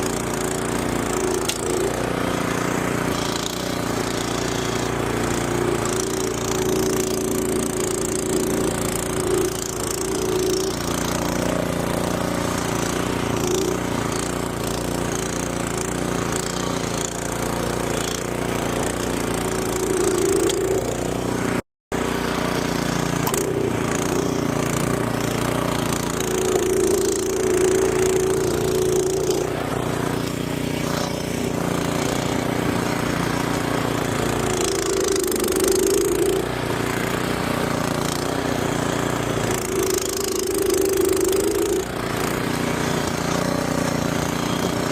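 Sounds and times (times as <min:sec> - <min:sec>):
snowblower engine running: 0:00.0 - 0:44.9.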